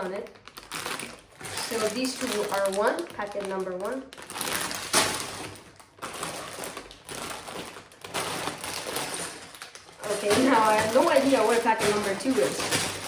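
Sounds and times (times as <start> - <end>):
plastic bags crinkling: 0.0 - 13.0
plastic bricks rattling: 0.5 - 13.0.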